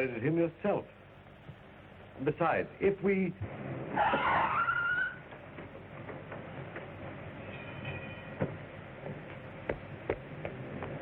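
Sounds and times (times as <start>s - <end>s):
train rumbling on track: 0.9s - 11.0s.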